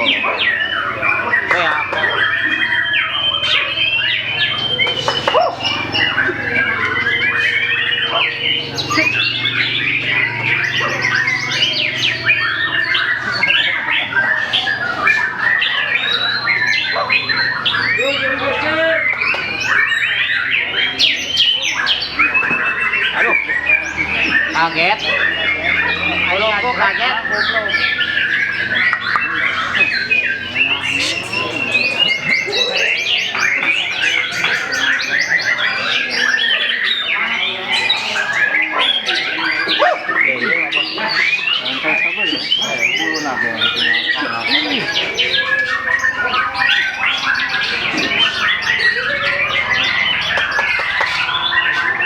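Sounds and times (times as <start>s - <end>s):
bird singing whistles and trills: 0.0s - 52.0s.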